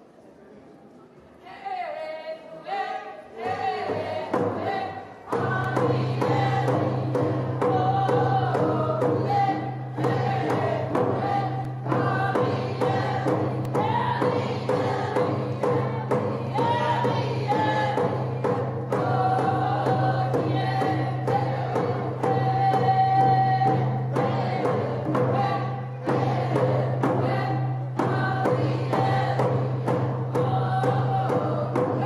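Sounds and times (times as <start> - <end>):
group singing in unison: 2.0 - 32.0
steady drum beat: 3.6 - 32.0.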